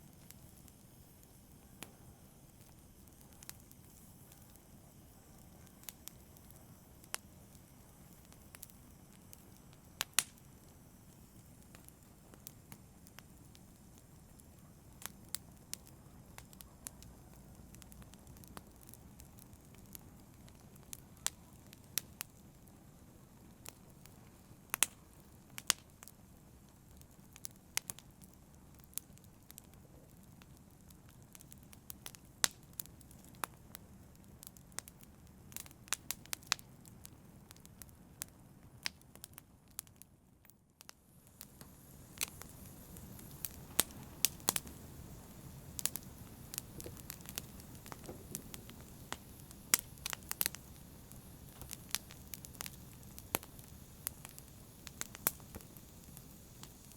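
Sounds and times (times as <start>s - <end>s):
soft steady hiss: 0.0s - 56.9s
wood fire crackling and popping: 0.0s - 56.9s.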